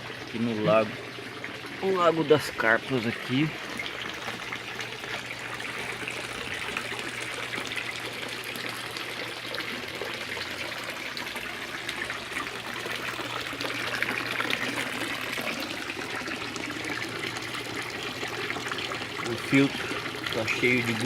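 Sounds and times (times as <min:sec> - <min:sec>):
water trickling into pond: 0:00.0 - 0:21.0.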